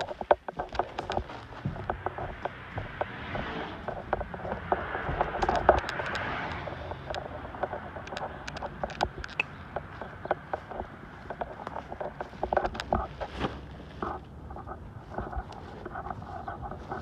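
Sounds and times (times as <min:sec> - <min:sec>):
scraping and rustling: 0:00.0 - 0:17.0.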